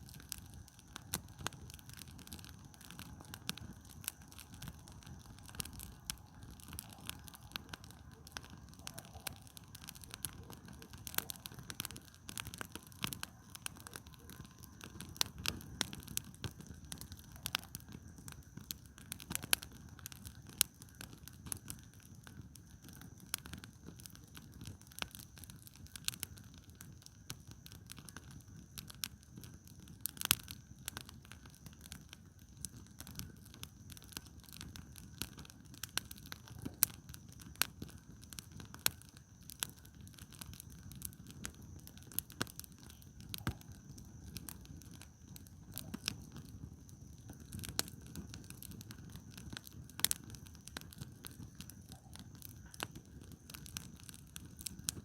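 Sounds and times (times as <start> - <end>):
fire low rumble: 0.0 - 55.0
firewood crackling and popping: 0.0 - 55.0.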